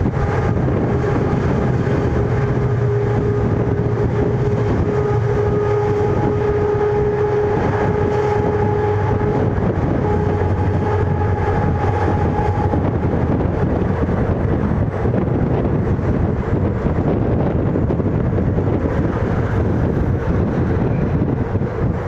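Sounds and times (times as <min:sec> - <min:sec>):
constant whine: 0:00.0 - 0:22.0
train wheels rumbling on rail: 0:00.0 - 0:22.0.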